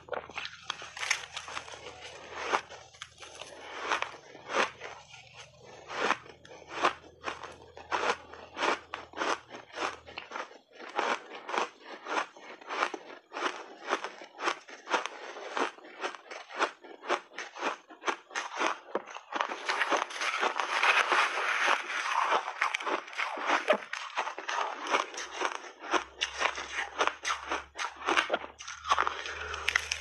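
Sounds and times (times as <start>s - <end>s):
teeth crunching shaved ice: 0.0s - 30.0s.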